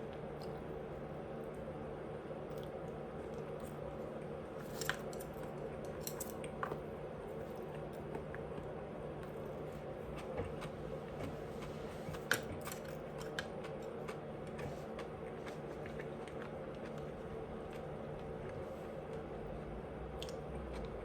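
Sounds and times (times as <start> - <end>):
low background hum: 0.0 - 21.0
person chewing food: 2.4 - 21.0.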